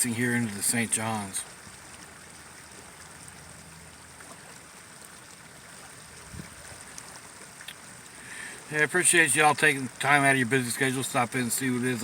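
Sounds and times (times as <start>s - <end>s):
water rushing from culvert: 0.0s - 12.0s.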